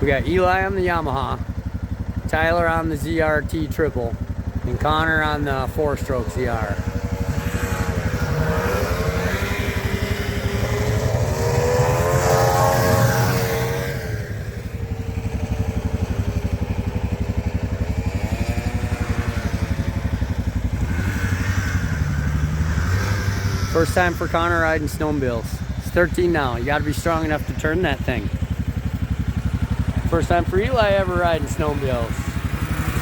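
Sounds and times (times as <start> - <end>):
low engine pulse: 1.1 - 33.0
snowmobiles revving past: 4.6 - 28.6, 29.5 - 33.0.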